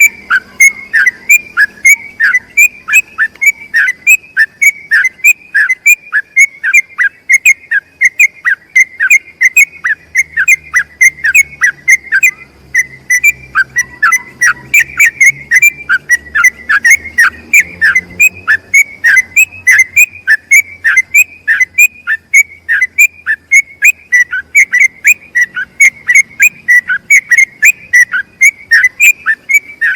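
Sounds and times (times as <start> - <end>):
bird singing whistled notes: 0.0 - 29.9.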